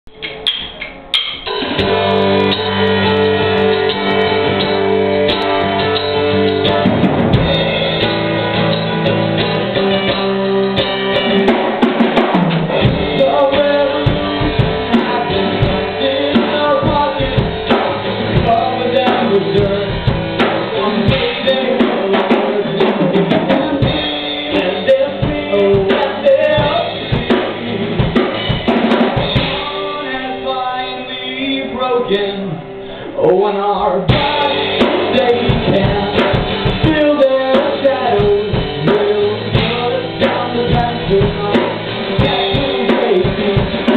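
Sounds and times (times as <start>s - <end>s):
drum kit beat: 0.0s - 31.8s, 34.0s - 43.9s
rock band playing: 0.1s - 43.9s.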